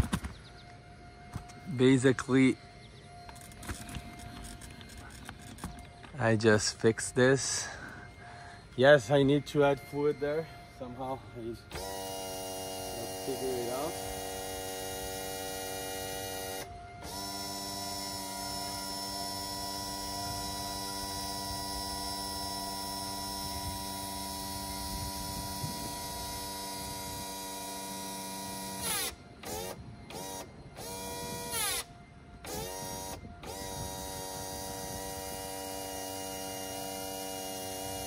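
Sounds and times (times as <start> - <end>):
electric pump motor whining: 0.0 - 38.0.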